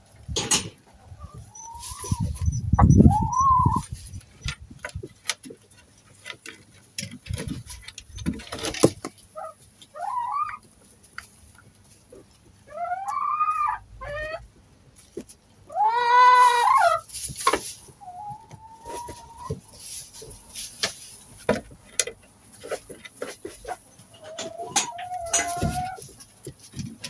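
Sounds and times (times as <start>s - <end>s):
hens calling and squawking: 0.0s - 6.4s, 7.2s - 27.0s
hens scratching and pecking straw: 0.0s - 27.0s.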